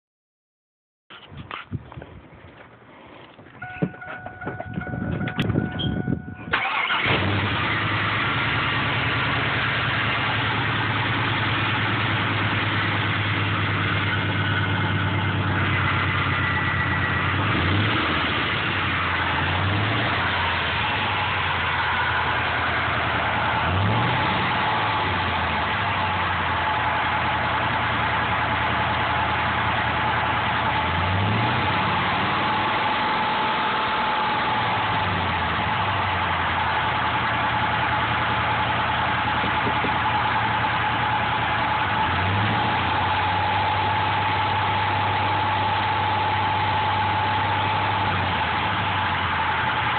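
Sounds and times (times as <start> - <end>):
engine idling: 3.2 - 49.9.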